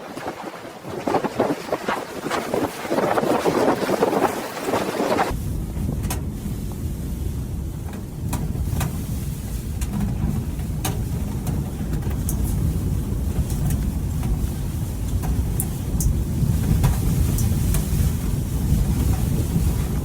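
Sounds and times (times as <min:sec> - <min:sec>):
blizzard wind buffeting microphone: 0:00.0 - 0:20.0.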